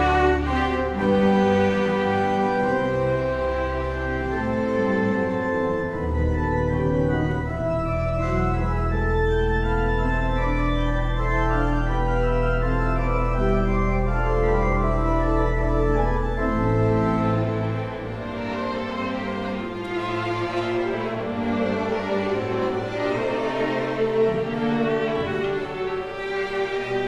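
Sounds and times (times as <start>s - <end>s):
string orchestra playing slow chords: 0.0s - 27.0s.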